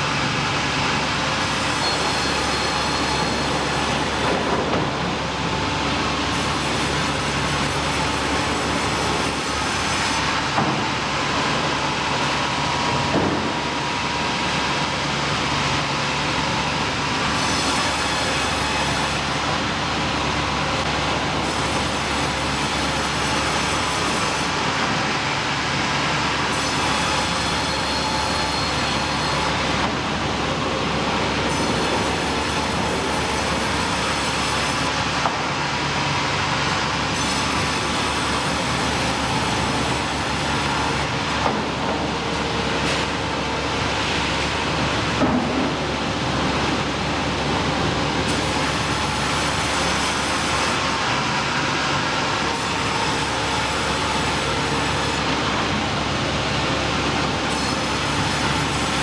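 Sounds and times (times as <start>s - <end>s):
sawmill machinery din: 0.0s - 59.0s.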